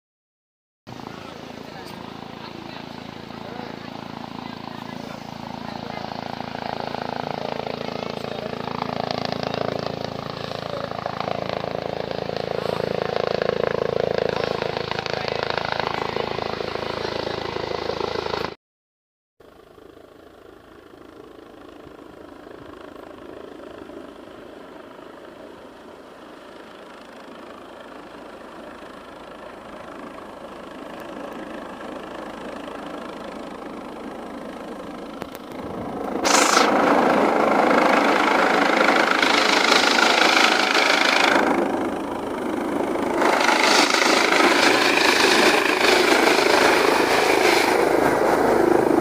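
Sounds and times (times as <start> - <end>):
helicopter engine and rotor: 0.9 - 18.6, 19.4 - 49.0.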